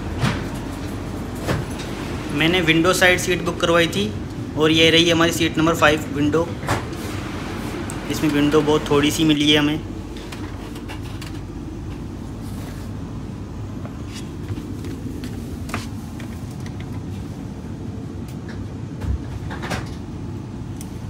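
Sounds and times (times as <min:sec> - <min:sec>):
air-conditioning hum: 0:00.0 - 0:21.0.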